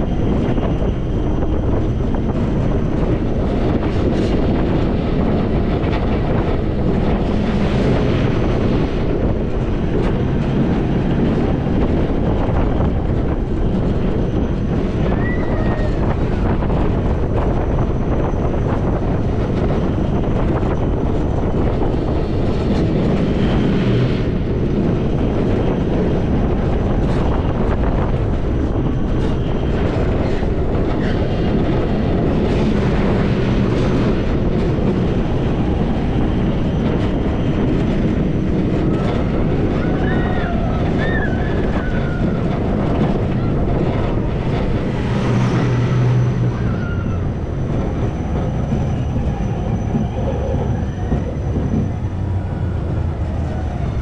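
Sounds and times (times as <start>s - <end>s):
coaster kart rumbling on rails: 0.0s - 54.0s
wind buffeting microphone: 0.0s - 54.0s.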